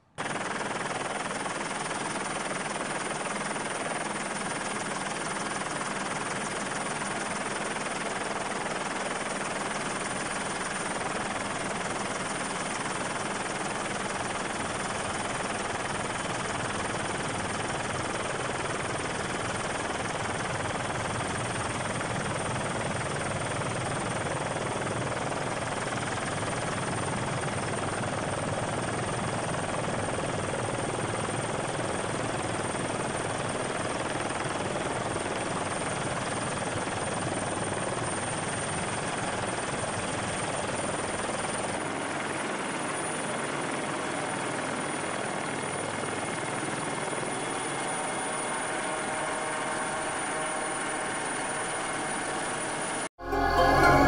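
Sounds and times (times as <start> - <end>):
helicopter engine and rotor drone: 0.1 - 53.1.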